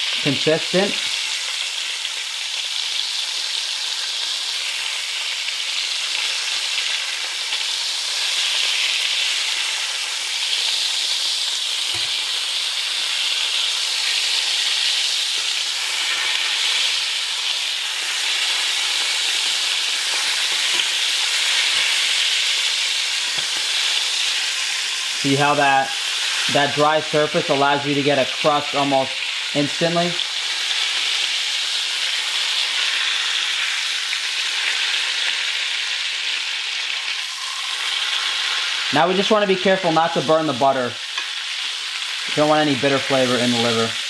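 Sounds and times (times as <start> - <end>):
liver sizzling in butter: 0.0 - 44.0.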